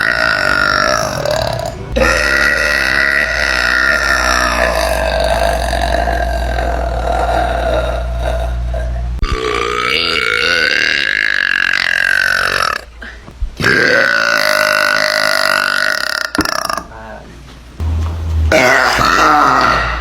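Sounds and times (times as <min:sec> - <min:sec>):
woman belching: 0:00.0 - 0:12.9, 0:13.6 - 0:16.9, 0:18.5 - 0:20.0.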